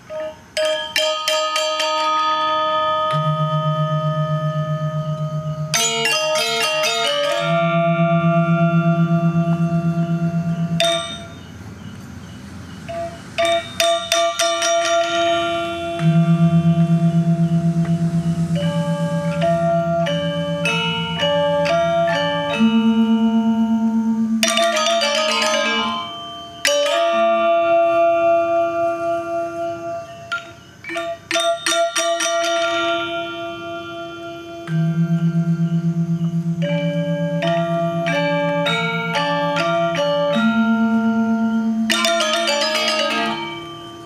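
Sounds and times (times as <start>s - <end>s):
gamelan metallophone notes: 0.0s - 44.0s.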